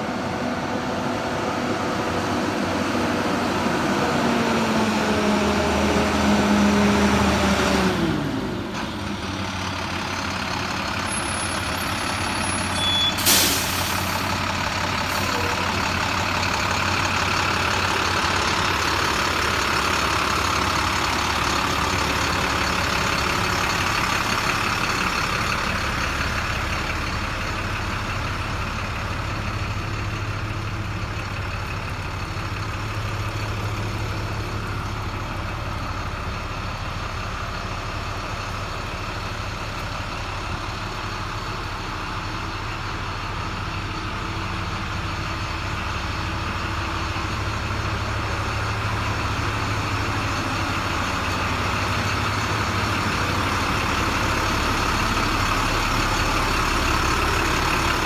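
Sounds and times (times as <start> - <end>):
diesel bus engine idling: 0.0 - 58.0.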